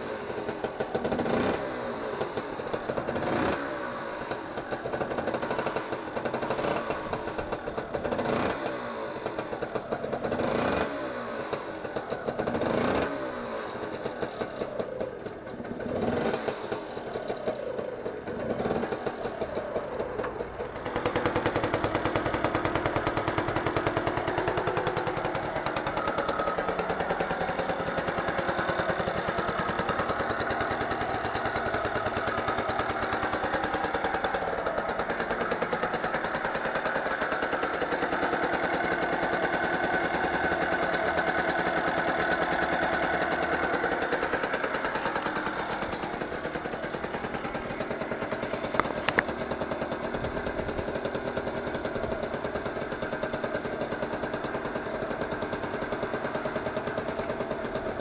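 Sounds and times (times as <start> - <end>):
moped engine running: 0.0 - 58.0.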